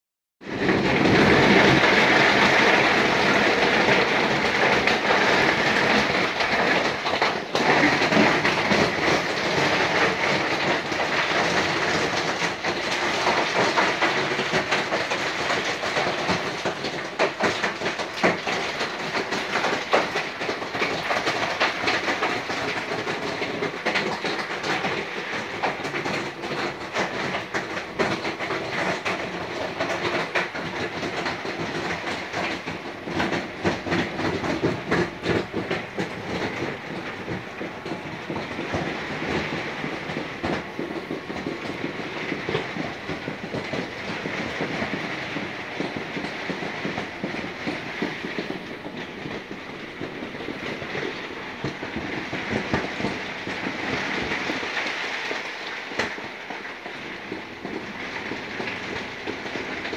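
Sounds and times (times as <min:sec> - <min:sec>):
heavy rain falling: 0:00.4 - 0:59.9.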